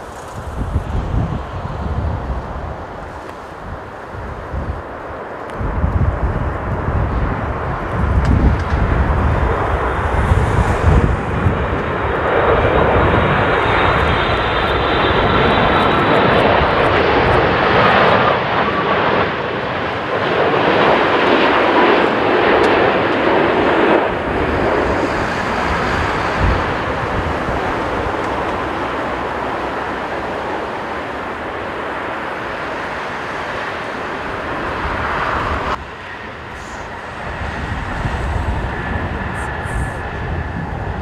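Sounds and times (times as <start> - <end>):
jet engines passing: 0.0 - 41.0
wind gusts on microphone: 0.0 - 41.0.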